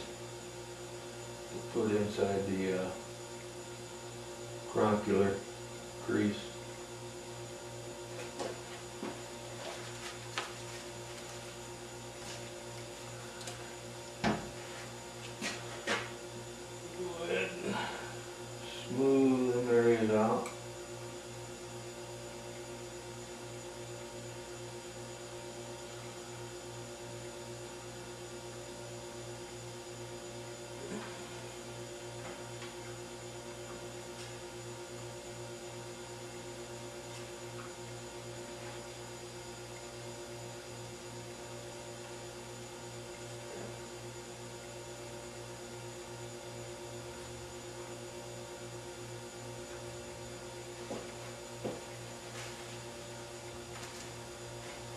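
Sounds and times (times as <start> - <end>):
electrical mains hum: 0.0 - 54.9.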